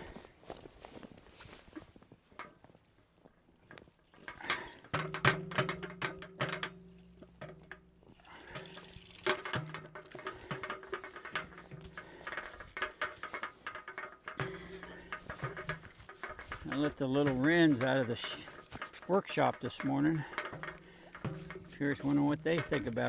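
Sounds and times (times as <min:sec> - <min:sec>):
taps and knocks on bird feeders: 0:04.2 - 0:23.0.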